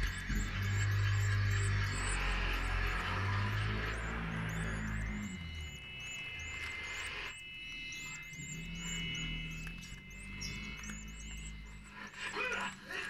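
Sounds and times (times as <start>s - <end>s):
low steady hum: 0.0s - 13.0s
nestlings cheeping: 0.0s - 13.0s.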